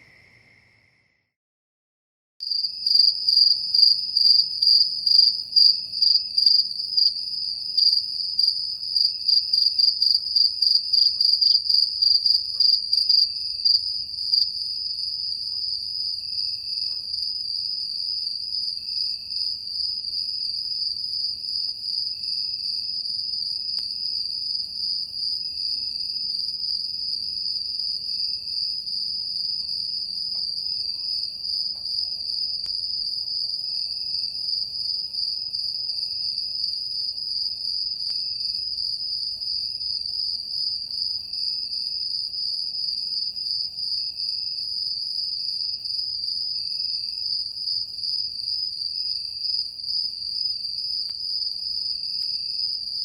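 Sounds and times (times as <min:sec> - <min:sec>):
crickets trilling: 0:02.4 - 0:53.0
low insect chirping: 0:02.4 - 0:53.0.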